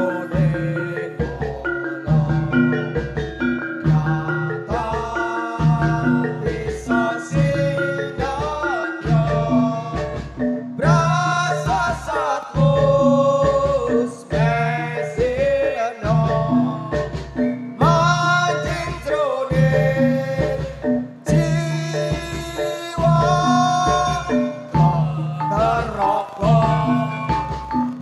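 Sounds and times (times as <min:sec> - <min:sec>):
drum beat: 0:00.0 - 0:28.0
metallophones: 0:00.0 - 0:28.0
person singing: 0:00.0 - 0:28.0.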